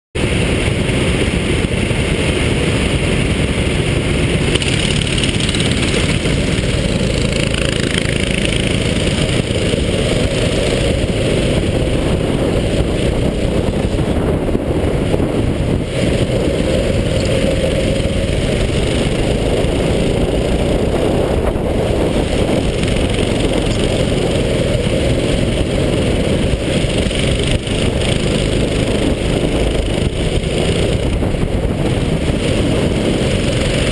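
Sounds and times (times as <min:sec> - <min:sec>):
go-kart engine running: 0:00.2 - 0:33.9.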